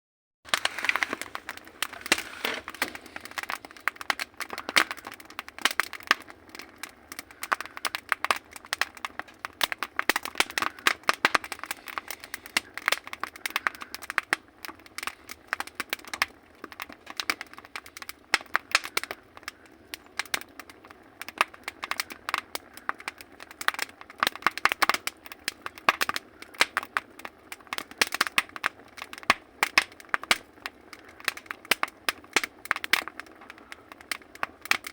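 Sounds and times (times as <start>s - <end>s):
firewood crackling in stove: 0.5s - 34.9s.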